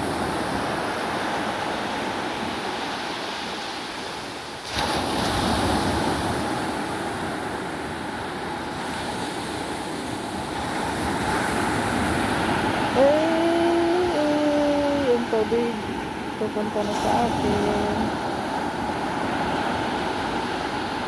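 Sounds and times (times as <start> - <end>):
ocean waves washing on beach: 0.0 - 21.0.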